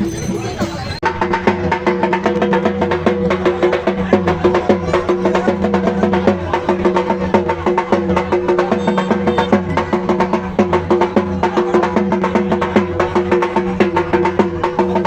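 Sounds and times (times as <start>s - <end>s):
fast drumming: 0.0s - 15.0s.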